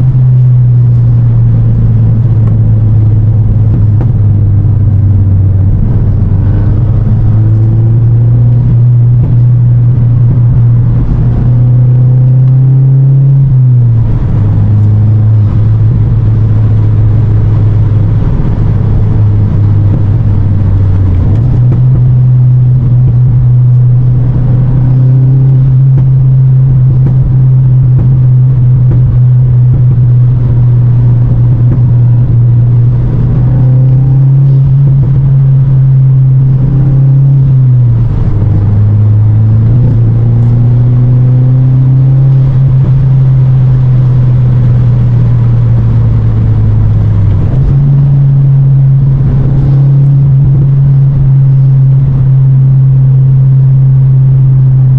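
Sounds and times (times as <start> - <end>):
low engine drone: 0.0 - 54.9
road noise: 0.0 - 54.9.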